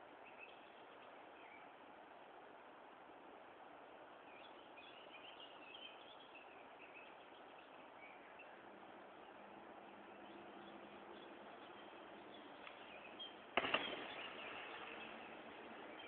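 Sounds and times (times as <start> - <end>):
background hiss: 0.0 - 16.0
faint birdsong: 0.0 - 16.0.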